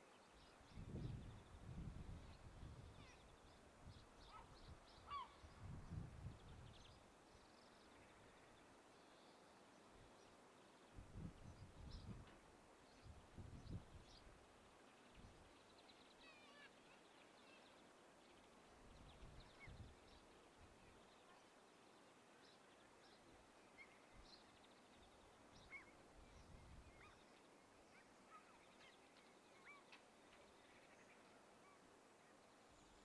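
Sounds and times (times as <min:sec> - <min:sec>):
faint bird chirps: 0:00.0 - 0:12.2, 0:12.9 - 0:33.0.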